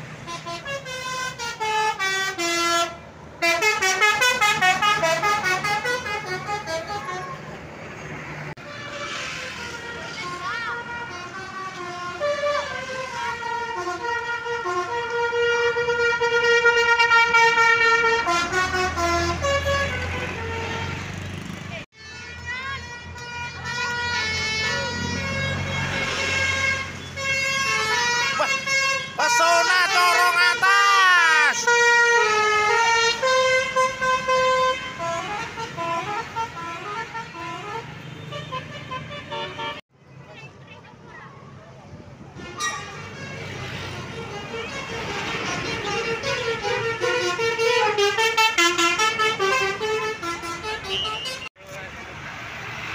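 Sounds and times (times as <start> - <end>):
bus horn playing a tune: 0.1 - 7.6, 8.6 - 39.8, 42.4 - 51.6.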